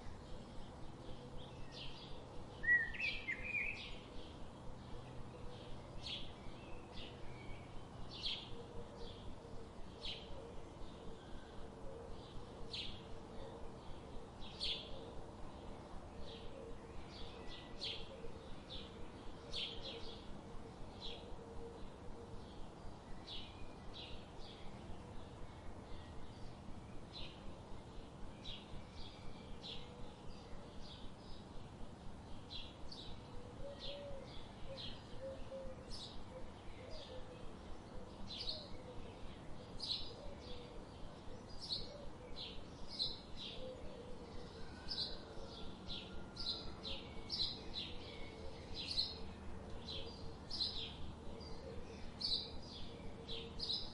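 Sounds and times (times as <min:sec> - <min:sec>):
faint background hiss: 0:00.0 - 0:53.9.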